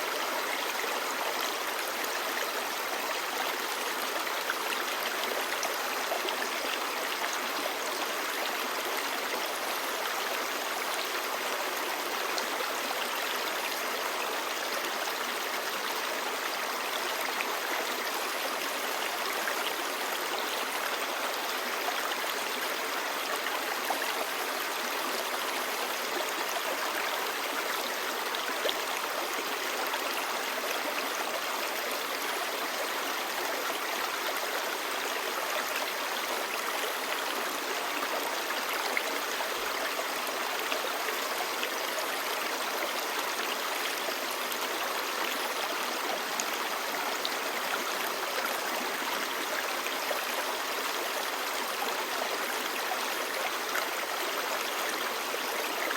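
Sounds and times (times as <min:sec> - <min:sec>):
stream babbling over rocks: 0:00.0 - 0:55.9.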